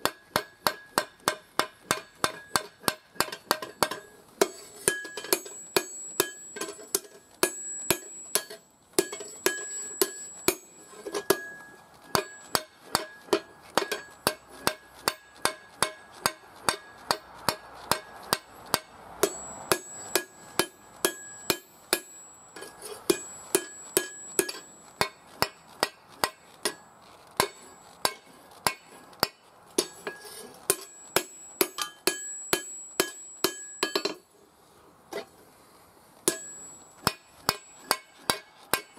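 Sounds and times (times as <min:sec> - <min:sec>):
anvil ringing: 0:00.0 - 0:34.2, 0:36.3 - 0:38.9
hammer striking hot steel on anvil: 0:00.0 - 0:34.3, 0:36.2 - 0:38.9.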